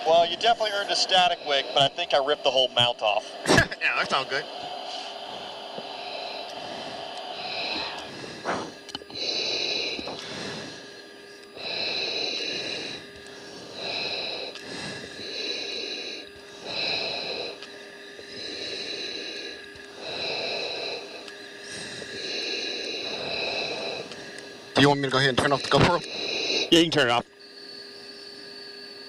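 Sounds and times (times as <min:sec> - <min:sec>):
faint hum: 0:00.0 - 0:29.0
hissing breaths through oxygen mask: 0:00.0 - 0:29.0.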